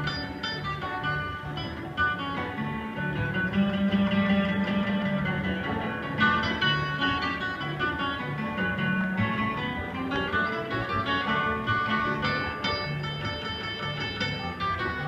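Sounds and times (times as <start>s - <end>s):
bluegrass band playing: 0.0s - 15.0s
walking bass line: 0.0s - 15.0s.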